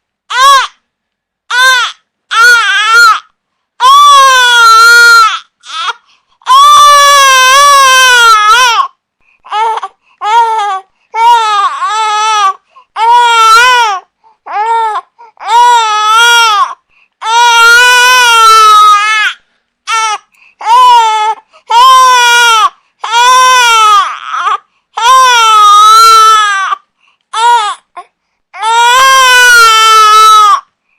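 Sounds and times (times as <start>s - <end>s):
baby crying: 0.3s - 0.8s, 1.5s - 30.7s.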